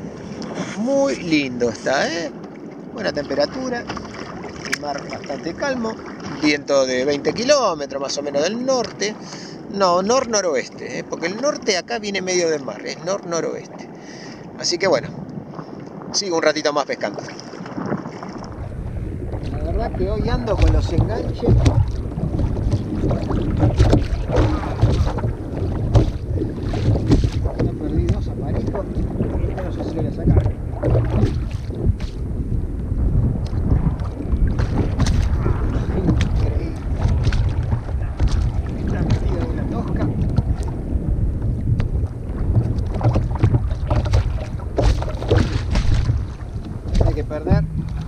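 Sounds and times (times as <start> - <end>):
water splashing against kayak hull: 0.0 - 48.0
wind buffeting microphone: 0.0 - 48.0.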